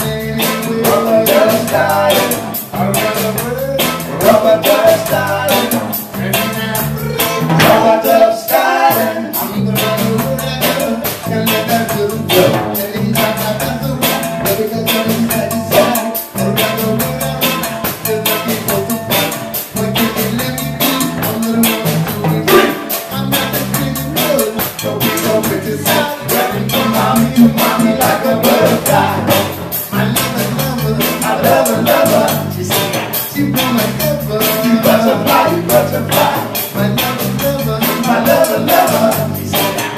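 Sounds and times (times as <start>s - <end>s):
live reggae band: 0.0s - 39.9s
man singing into microphone: 0.0s - 39.9s.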